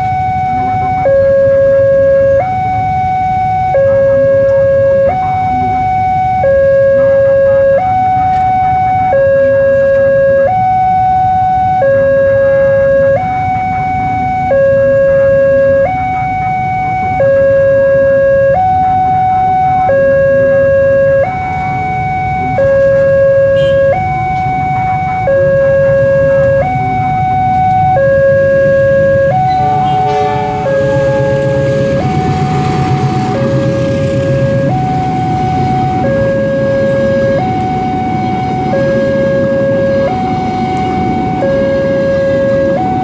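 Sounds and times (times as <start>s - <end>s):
two-tone crossing alarm: 0.0s - 43.0s.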